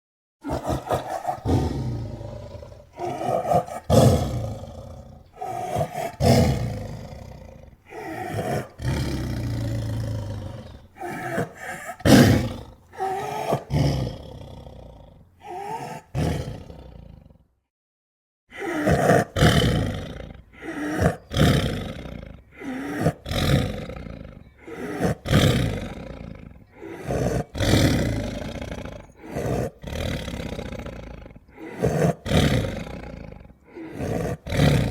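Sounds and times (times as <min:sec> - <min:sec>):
big cat roars and growls: 0:00.4 - 0:17.4, 0:18.6 - 0:34.9.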